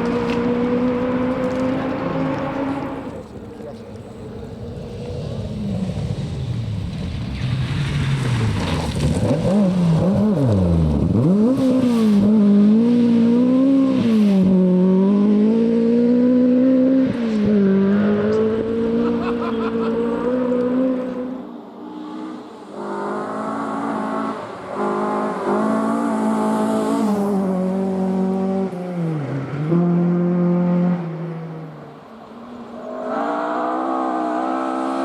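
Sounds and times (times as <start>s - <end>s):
rally car engine revving: 0.0s - 31.9s, 32.5s - 35.0s.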